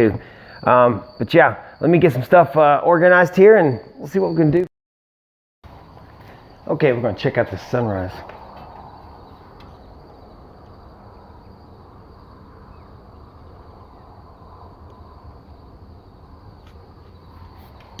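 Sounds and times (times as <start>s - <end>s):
insects trilling: 0.0s - 4.7s, 5.6s - 18.0s.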